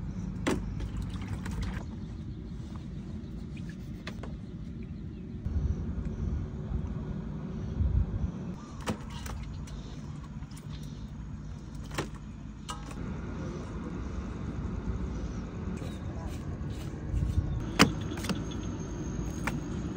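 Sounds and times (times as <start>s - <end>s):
low uneven rumble: 0.0s - 19.9s.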